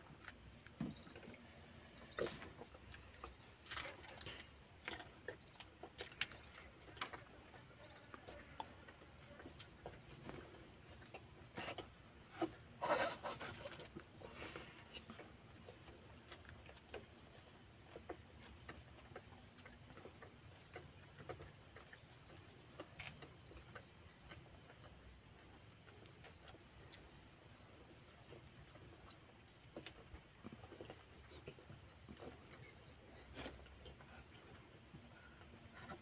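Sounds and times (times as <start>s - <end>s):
children chewing food: 0.0s - 36.0s.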